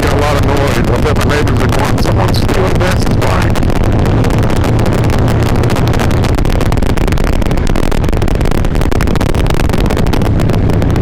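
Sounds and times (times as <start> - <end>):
motorcycle engine running: 0.0 - 11.0
wind rush: 0.0 - 11.0.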